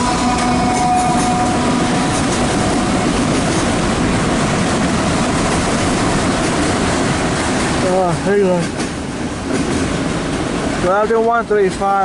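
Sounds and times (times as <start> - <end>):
diesel locomotive hum: 0.0 - 12.0
freight train wheels rumbling and rattling: 0.0 - 12.0.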